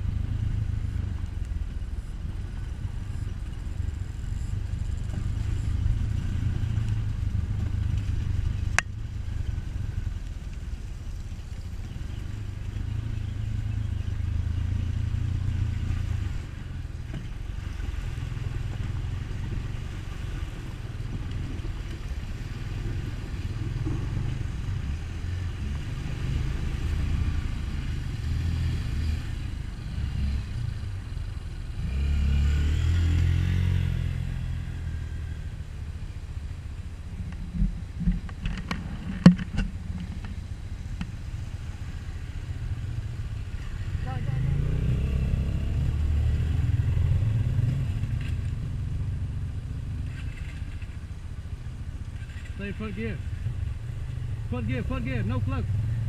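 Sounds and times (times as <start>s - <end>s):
dirt bike passing: 0.0s - 56.0s
motorcycle engines rumbling: 0.0s - 56.0s.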